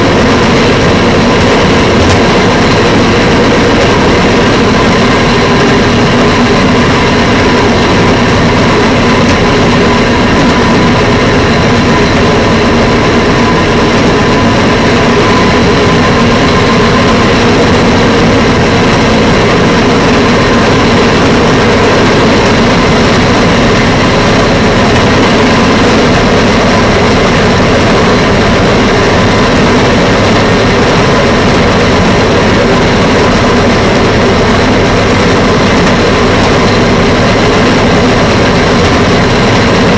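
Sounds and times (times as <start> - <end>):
rail vehicle engine drone: 0.0 - 39.9.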